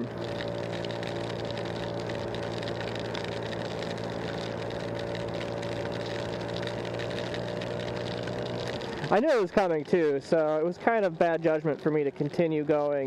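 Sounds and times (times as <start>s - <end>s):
rain patter: 0.0s - 13.0s
scooter engine running: 0.0s - 13.0s.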